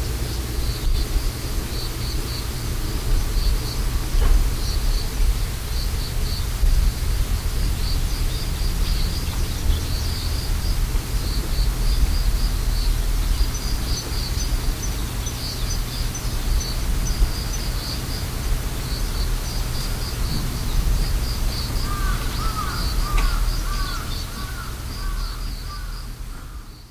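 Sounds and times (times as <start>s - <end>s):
low steady rumble: 0.0s - 26.8s
insects chirping: 0.0s - 26.9s.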